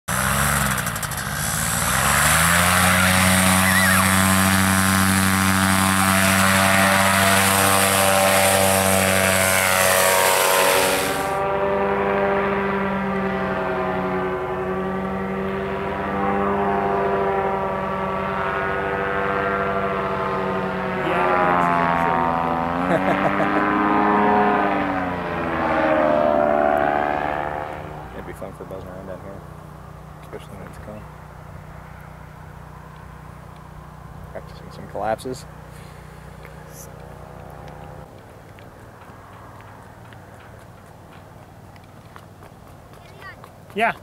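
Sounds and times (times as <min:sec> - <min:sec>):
paramotor engine and propeller: 0:00.1 - 0:44.0.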